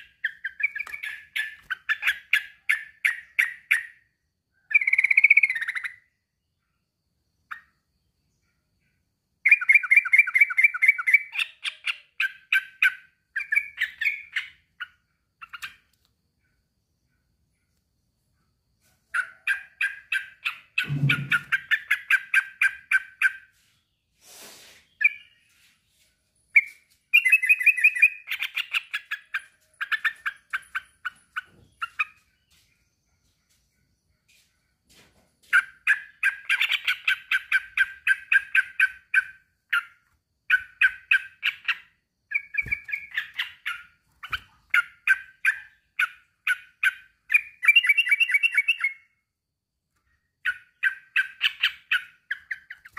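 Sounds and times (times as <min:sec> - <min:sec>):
bird chattering song: 0:00.0 - 0:06.6, 0:07.4 - 0:25.7, 0:26.5 - 0:34.7, 0:35.4 - 0:49.3, 0:50.0 - 0:52.9.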